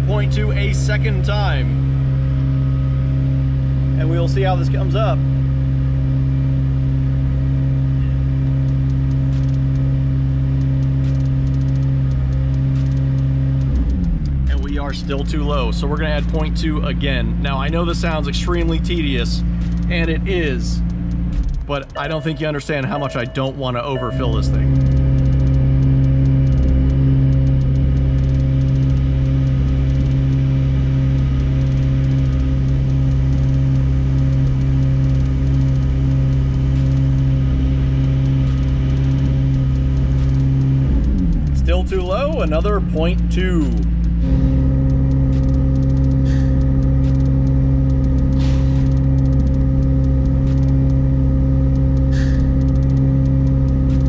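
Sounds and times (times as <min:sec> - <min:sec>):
car engine running steadily: 0:00.0 - 0:54.0.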